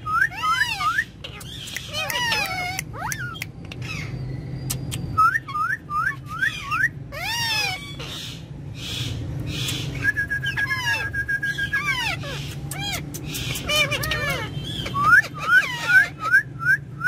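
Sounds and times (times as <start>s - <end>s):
squawky parrot calls: 0.0s - 16.9s
parrots whistling: 0.0s - 17.0s.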